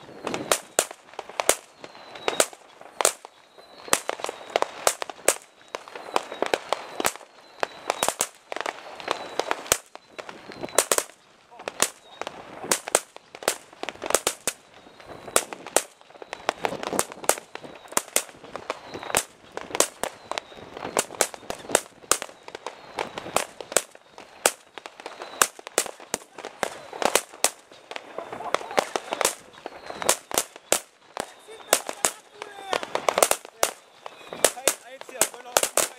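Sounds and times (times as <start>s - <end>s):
firecrackers banging: 0.0s - 35.9s.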